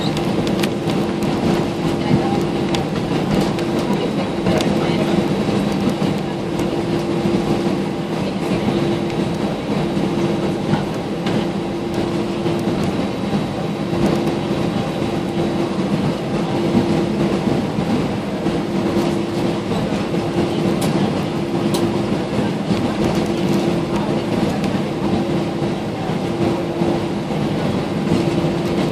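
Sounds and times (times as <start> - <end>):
airliner rolling rumble: 0.0 - 28.9
jet engines at low thrust: 0.0 - 28.9.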